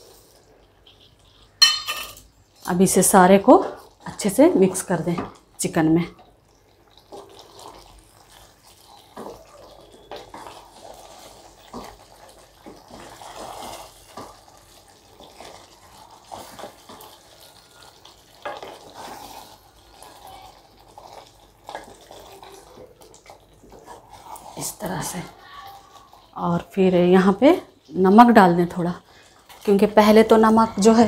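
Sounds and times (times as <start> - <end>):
spatula stirring wet mix: 0.0 - 1.8, 2.5 - 31.0.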